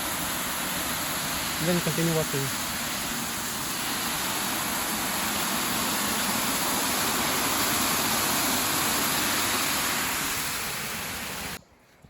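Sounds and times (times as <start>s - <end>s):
water tumbling over waterfall: 0.0s - 11.6s.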